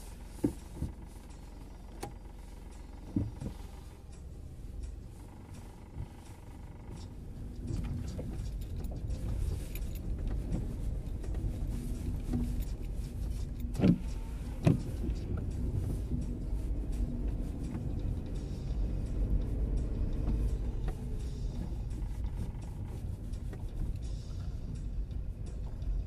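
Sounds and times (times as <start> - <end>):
car engine and tyre rumble on snow: 0.0 - 26.0.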